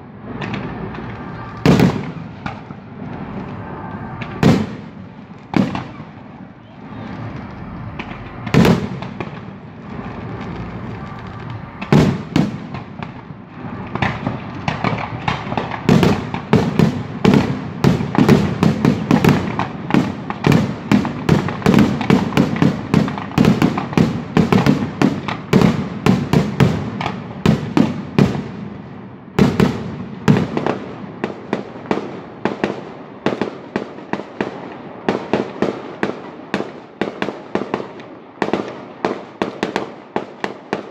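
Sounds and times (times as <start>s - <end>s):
firework bangs and crackles: 0.0s - 40.9s.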